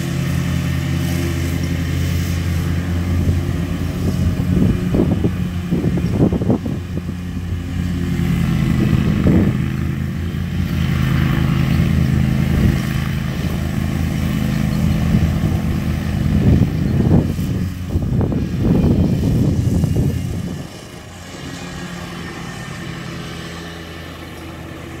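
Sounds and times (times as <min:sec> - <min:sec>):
low rumbles: 0:00.0 - 0:25.0
riding lawn mower engine running: 0:00.0 - 0:25.0.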